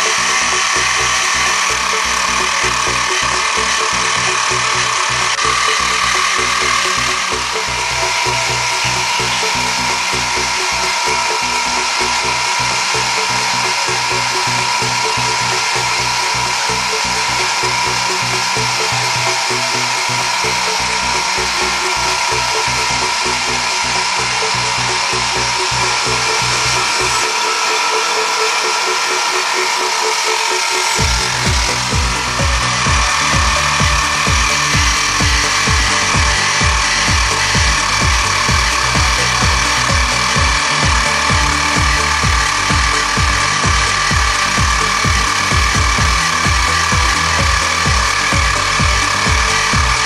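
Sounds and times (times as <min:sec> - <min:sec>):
milling machine motor whine: 0:00.0 - 0:50.0.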